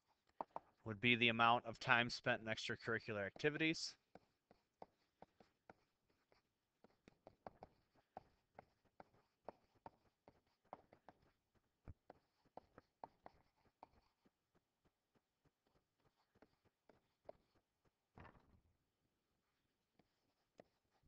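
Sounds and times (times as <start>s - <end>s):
stylus tapping and scratching: 0.0s - 0.8s, 1.8s - 18.1s, 19.9s - 21.0s.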